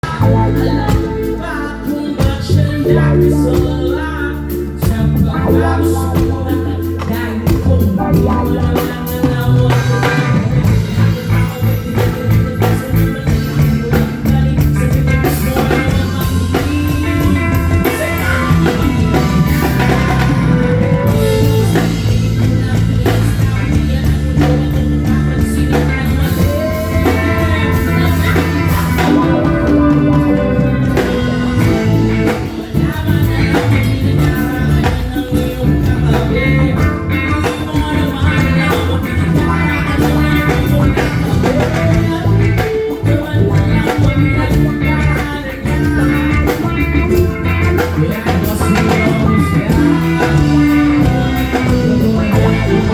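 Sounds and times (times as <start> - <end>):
bass guitar: 0.0 - 52.9
drum kit: 0.0 - 52.9
electric guitar: 0.0 - 52.9
person singing: 0.0 - 52.9.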